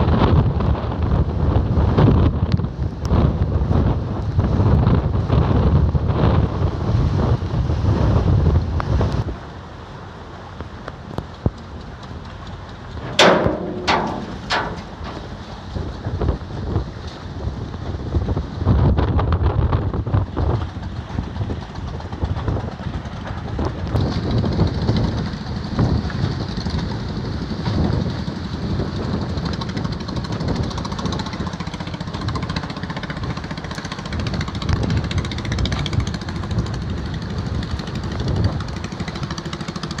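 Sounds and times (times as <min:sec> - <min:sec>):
gusty wind buffeting microphone: 0:00.0 - 0:40.0.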